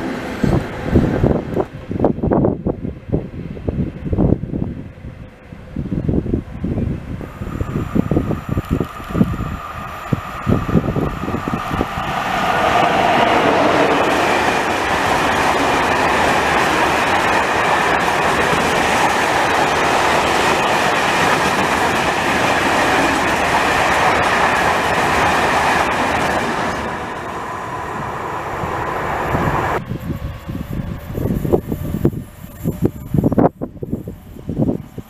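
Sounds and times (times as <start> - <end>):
freight train wheels rumbling: 0.0 - 35.0
wind buffeting microphone: 0.0 - 35.0.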